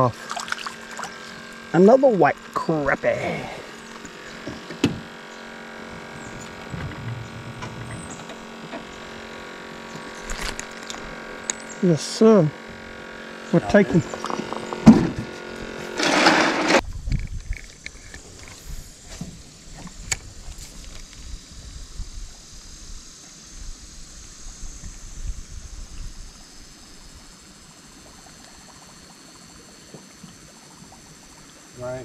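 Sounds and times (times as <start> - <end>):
electric motor whine: 0.0 - 32.0.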